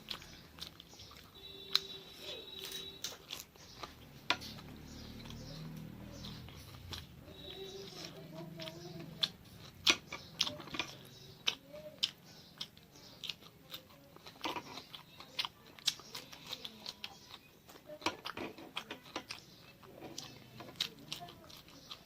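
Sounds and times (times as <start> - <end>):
chewing with wet smacks: 0.0 - 22.0.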